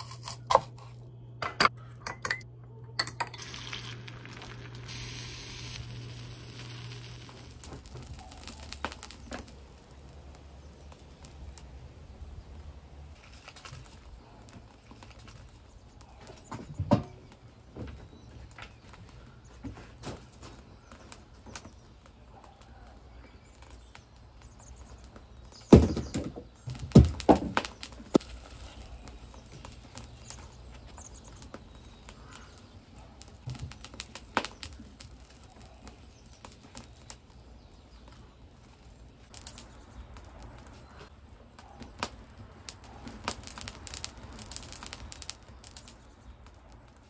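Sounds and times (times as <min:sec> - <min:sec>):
wood fire crackling and popping: 0:03.2 - 0:47.0.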